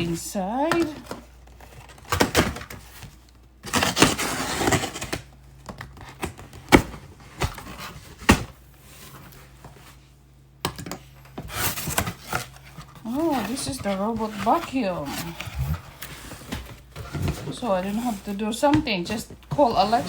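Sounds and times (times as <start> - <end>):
cardboard packaging rustling: 0.0 - 10.1, 11.3 - 20.0.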